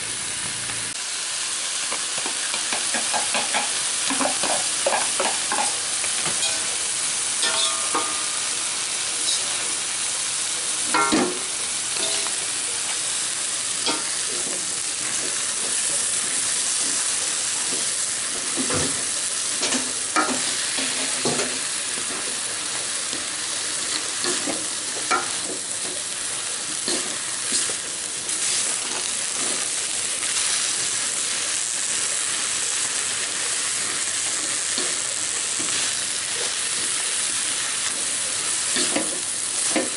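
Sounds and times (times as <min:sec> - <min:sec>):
leaves sizzling in oil: 0:00.0 - 0:39.9.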